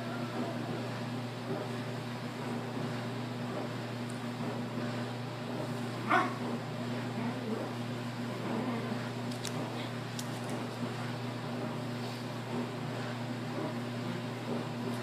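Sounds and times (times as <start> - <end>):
puppies sleep noises: 0.0 - 15.0.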